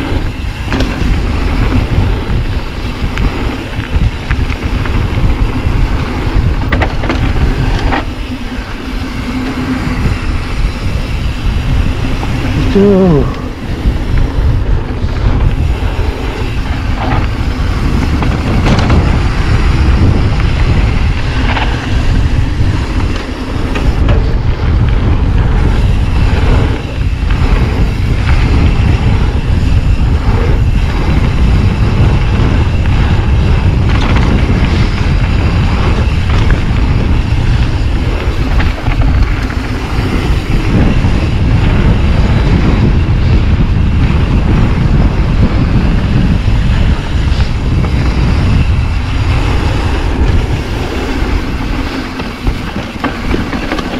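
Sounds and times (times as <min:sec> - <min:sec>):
bike rattling over bumps: 0:00.0 - 0:53.9
bike tyre noise: 0:00.0 - 0:53.9
wind buffeting microphone: 0:00.0 - 0:53.9.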